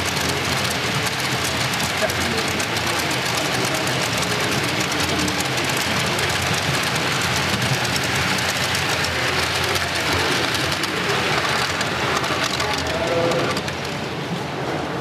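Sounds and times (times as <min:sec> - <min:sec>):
model train wheels clattering: 0:00.0 - 0:14.2.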